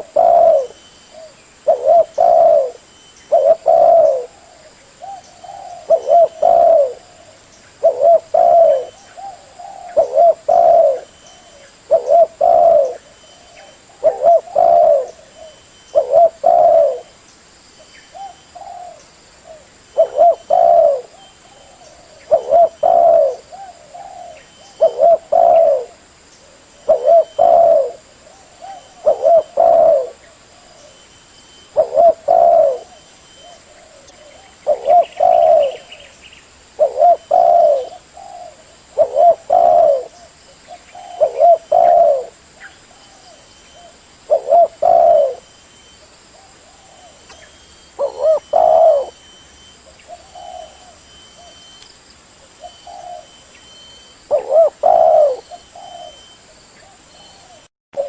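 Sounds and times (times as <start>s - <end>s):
dove cooing: 0.0s - 17.2s, 18.1s - 31.0s, 31.6s - 45.6s, 46.3s - 51.8s, 52.4s - 58.0s.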